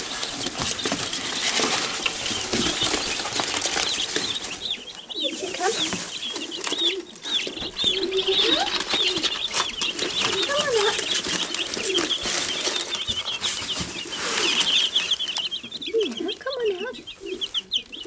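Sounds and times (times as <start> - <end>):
chicks peeping: 0.0 - 18.0
scratchy rustling: 0.0 - 18.0
low gliding bird calls: 2.2 - 18.0.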